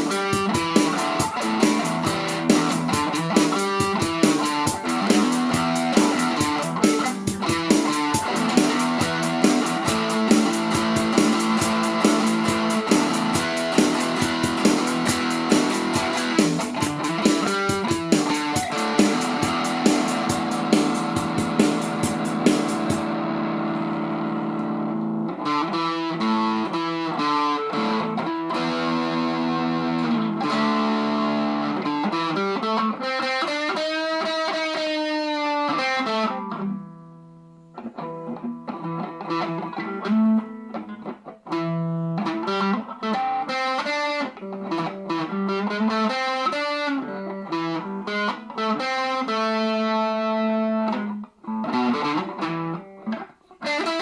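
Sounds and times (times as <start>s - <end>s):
overdriven electric guitar: 0.0s - 54.0s.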